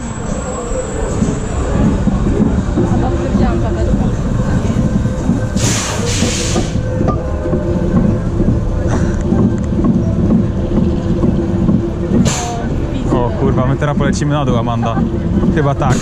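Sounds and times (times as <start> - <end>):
roller coaster rumble and rattle: 0.0 - 16.0.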